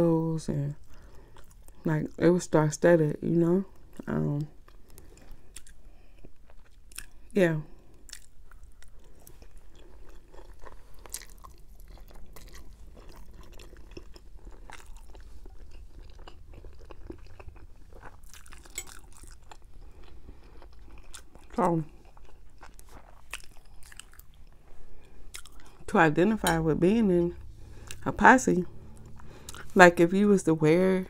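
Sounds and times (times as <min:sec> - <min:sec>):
person chewing with wet clicks: 0:00.8 - 0:02.2, 0:03.7 - 0:26.6, 0:28.8 - 0:29.8.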